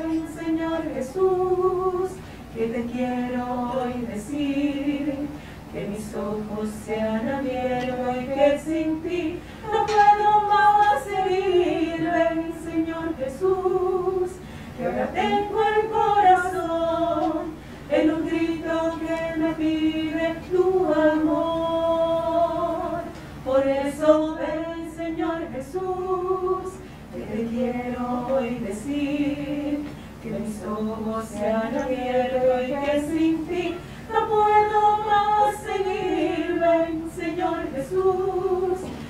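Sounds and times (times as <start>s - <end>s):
women singing a hymn: 0.0s - 39.0s.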